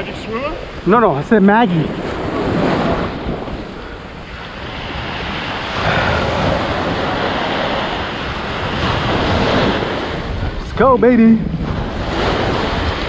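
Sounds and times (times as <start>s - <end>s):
ocean surf washing up beach: 0.0s - 13.0s
wind buffeting microphone: 0.0s - 13.0s.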